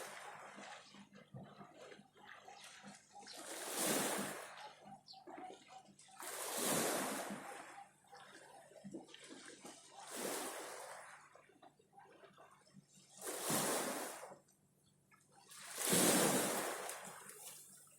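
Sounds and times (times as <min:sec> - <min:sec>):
sea water splashing: 0:00.0 - 0:14.4, 0:15.4 - 0:17.8.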